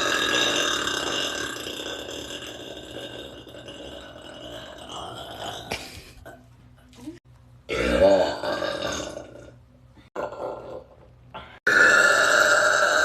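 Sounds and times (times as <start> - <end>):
person burping: 0.0 - 6.4, 7.7 - 13.0.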